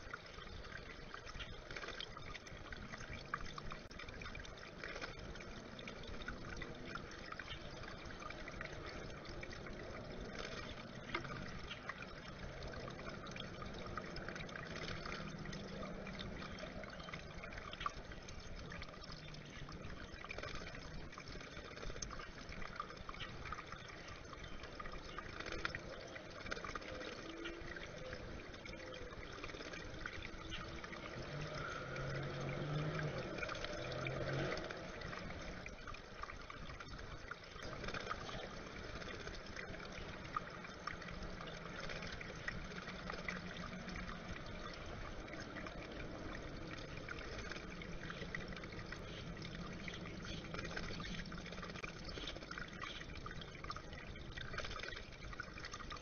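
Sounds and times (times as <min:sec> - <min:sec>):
fine dripping and splashes: 0:00.0 - 0:56.0
water trickling over rocks: 0:00.0 - 0:56.0.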